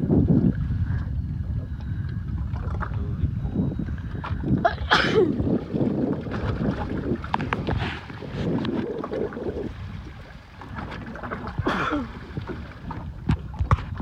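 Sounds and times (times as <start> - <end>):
water moving around boat: 0.0 - 14.0
wind buffeting microphone: 0.0 - 14.0.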